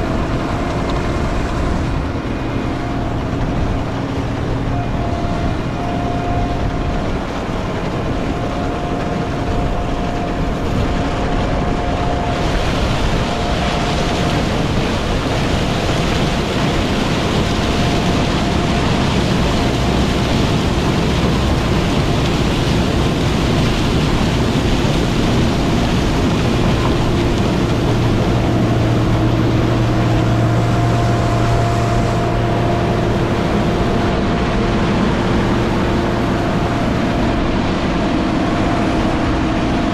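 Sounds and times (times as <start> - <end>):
deep hum: 0.0 - 39.9
diesel machinery running: 0.0 - 39.9
mechanical whine: 0.0 - 39.9.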